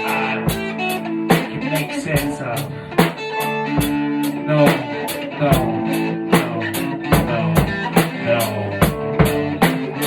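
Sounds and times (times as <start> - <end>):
drum kit steady beat: 0.0 - 10.0
guitar sustained notes: 0.0 - 10.0.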